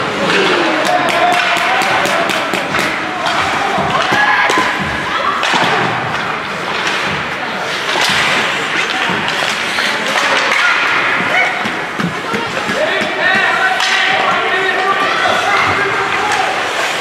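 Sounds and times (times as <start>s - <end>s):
sticks and puck hitting boards: 0.2s - 17.0s.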